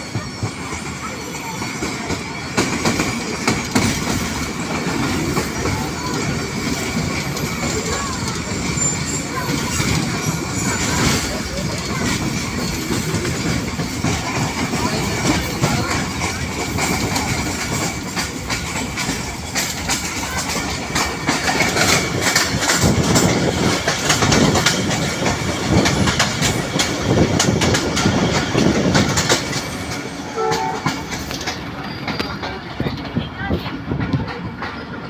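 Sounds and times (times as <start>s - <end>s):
train rumbling on track: 0.0s - 35.0s
wheels clattering over rails: 0.0s - 35.0s.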